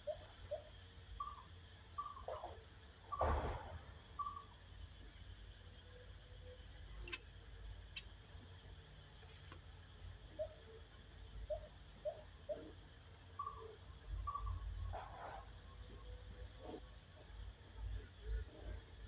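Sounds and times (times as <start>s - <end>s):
faint bird calls: 0.0s - 8.2s, 10.2s - 18.9s.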